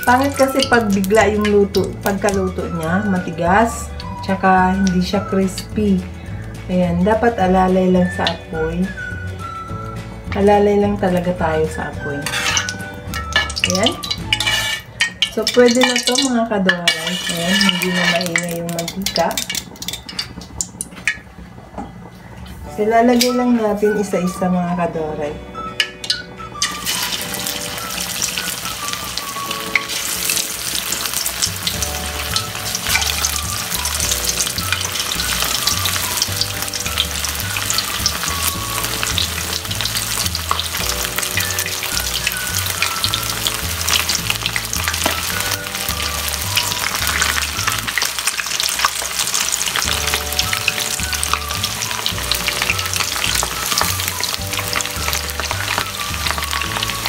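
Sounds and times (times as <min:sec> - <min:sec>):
meat deep-frying in hot oil: 0:00.0 - 0:21.7, 0:25.6 - 0:57.0.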